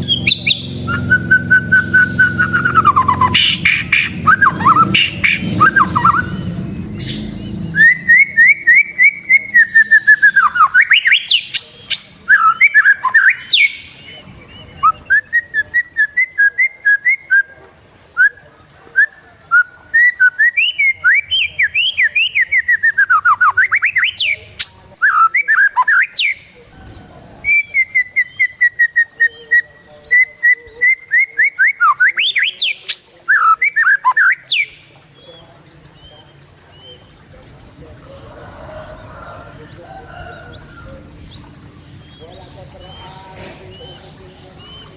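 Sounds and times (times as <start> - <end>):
songbird trilling: 0.0 - 44.9.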